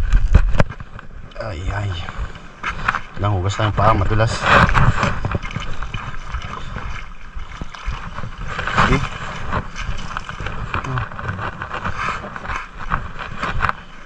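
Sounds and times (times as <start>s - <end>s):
footsteps on wooden footbridge: 0.0s - 14.0s
wind buffeting microphone: 0.0s - 14.0s.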